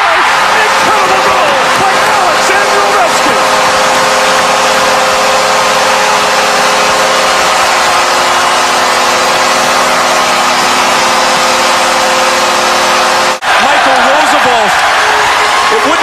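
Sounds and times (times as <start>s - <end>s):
crowd cheering: 0.0s - 16.0s
multi-note goal horn: 0.1s - 13.4s.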